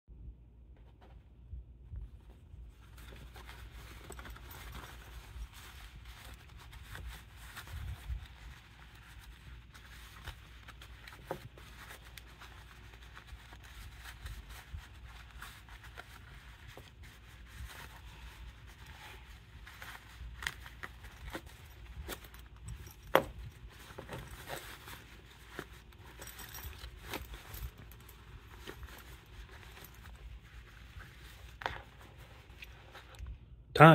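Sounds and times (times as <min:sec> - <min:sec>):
fabric rustling and rubbing: 0:00.7 - 0:33.6.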